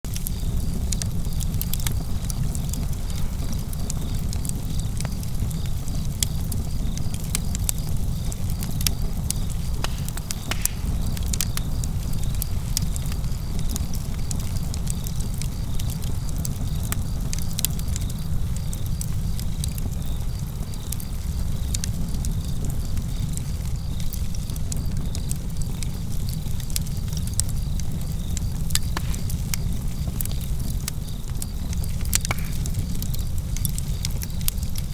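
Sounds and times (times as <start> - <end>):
campfire crackling: 0.1 - 34.9
crickets chirping: 0.1 - 34.9.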